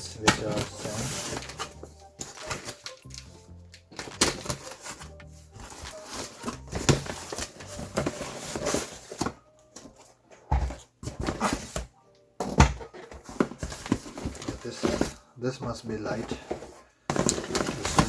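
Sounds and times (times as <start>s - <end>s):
cardboard box being unpacked: 0.0s - 10.0s, 10.6s - 11.9s, 12.9s - 18.0s
music: 0.0s - 18.0s.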